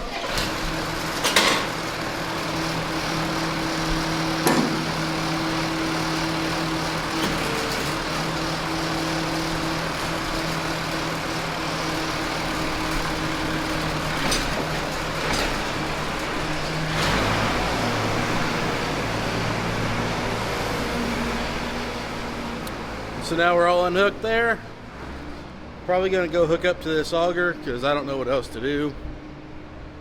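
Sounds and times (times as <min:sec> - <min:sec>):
tractor engine running: 0:00.0 - 0:29.7.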